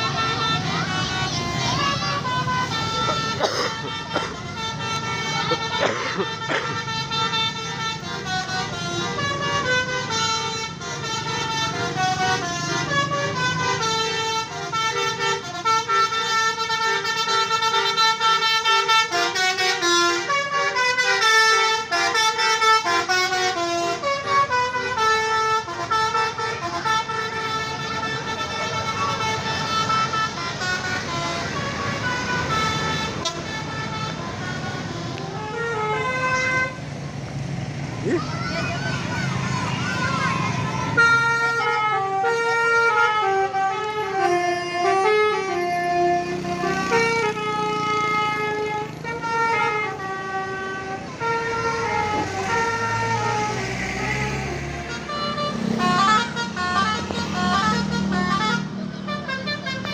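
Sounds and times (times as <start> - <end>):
multi-tone bus horn melody: 0.0 - 59.9.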